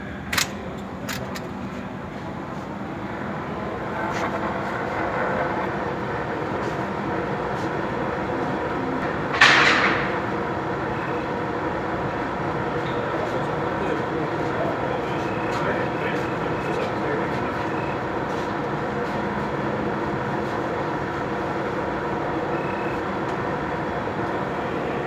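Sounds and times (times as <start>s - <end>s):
machine noise humming: 0.0s - 25.0s.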